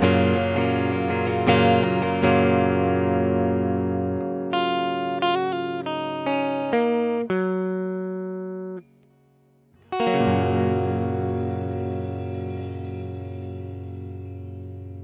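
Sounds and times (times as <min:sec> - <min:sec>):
guitar chord ringing: 0:00.0 - 0:15.0
guitar picked notes: 0:00.0 - 0:15.0.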